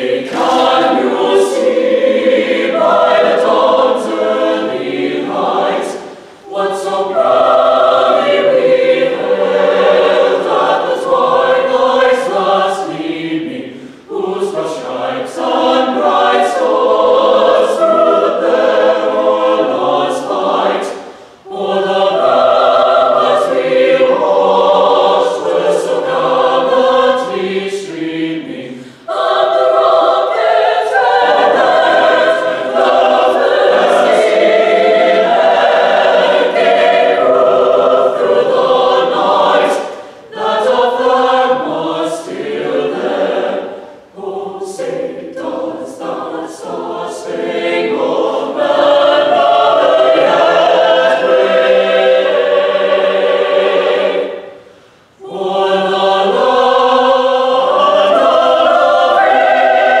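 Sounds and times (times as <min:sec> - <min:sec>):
choir singing: 0:00.0 - 1:00.0.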